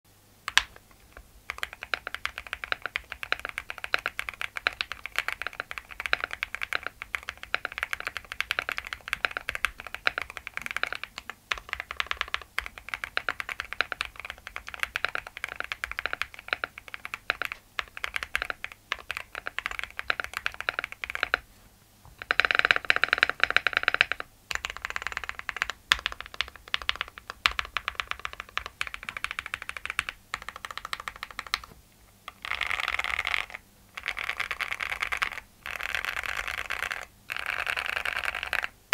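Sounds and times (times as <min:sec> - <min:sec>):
fast mechanical keyboard typing: 0:00.5 - 0:21.5, 0:22.2 - 0:31.7, 0:32.3 - 0:38.8.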